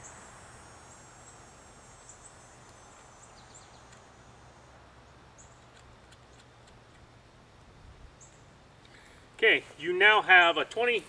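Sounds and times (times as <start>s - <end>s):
birds chirping: 0.0s - 7.1s, 8.1s - 11.0s
low steady hum: 0.0s - 11.0s.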